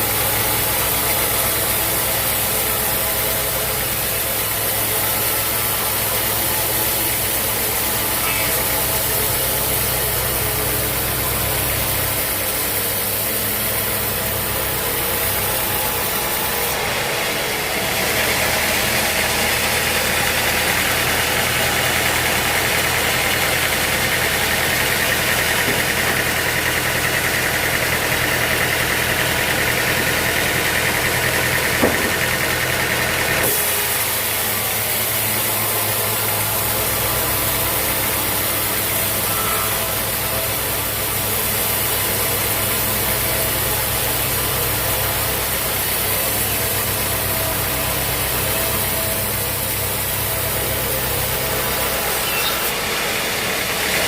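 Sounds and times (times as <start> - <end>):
machinery engine humming: 0.0 - 54.0.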